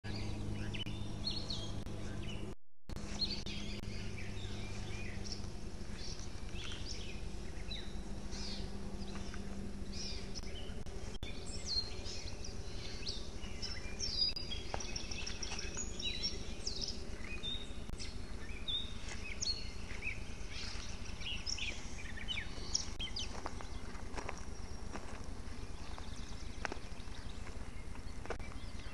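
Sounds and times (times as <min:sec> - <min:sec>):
faint low hum: 0:00.1 - 0:28.9
songbirds chirping and singing: 0:00.1 - 0:28.9.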